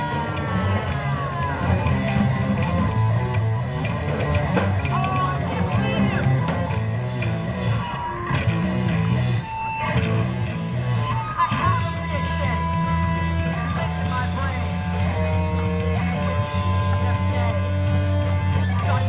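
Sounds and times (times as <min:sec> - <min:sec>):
drum kit: 0:00.0 - 0:19.0
electric bass: 0:00.0 - 0:19.0
electric guitar: 0:00.0 - 0:19.0.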